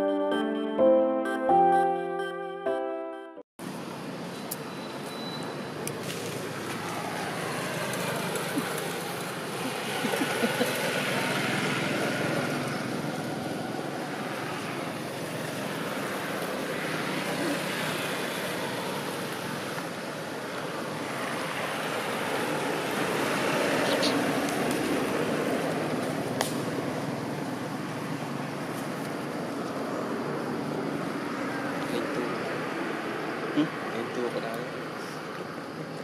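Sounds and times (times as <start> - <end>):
road traffic passing: 3.6 - 36.0.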